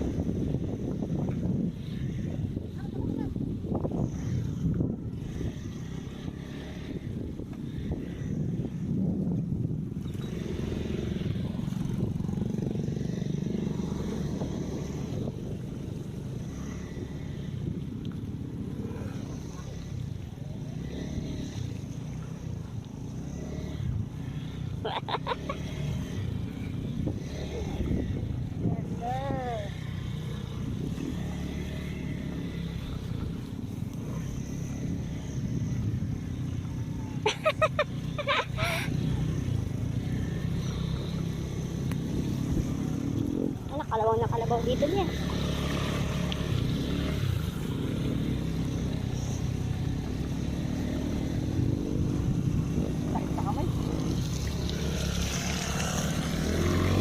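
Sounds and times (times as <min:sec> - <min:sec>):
motorcycle engine running: 0:00.0 - 0:57.0
road noise: 0:00.0 - 0:57.0.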